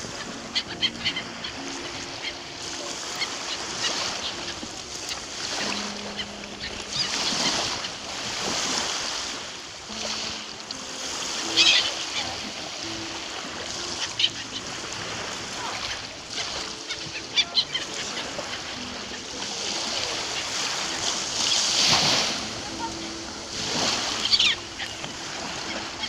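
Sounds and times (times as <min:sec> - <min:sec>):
waves lapping on shore: 0:00.0 - 0:26.0
gull call: 0:00.1 - 0:09.2, 0:10.0 - 0:26.0.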